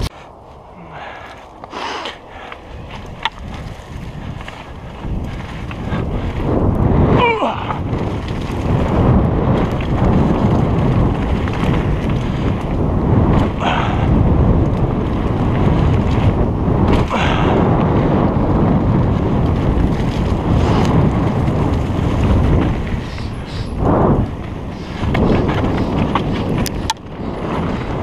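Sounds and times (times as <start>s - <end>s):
bike tyres rumbling on dirt: 0.0s - 28.0s
wind on camera microphone: 0.0s - 28.0s.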